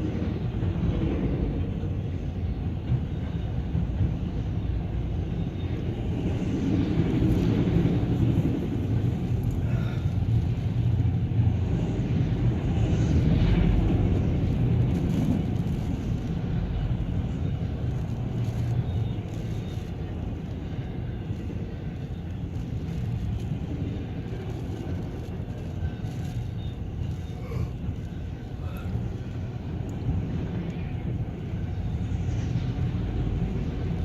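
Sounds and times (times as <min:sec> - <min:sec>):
freight train cars rolling: 0:00.1 - 0:34.0.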